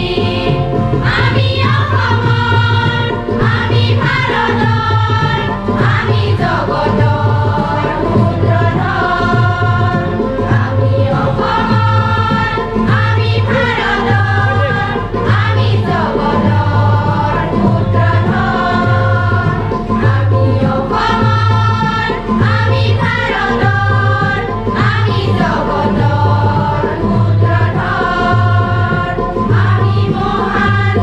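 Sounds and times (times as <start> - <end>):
women's choir singing: 0.0 - 31.0.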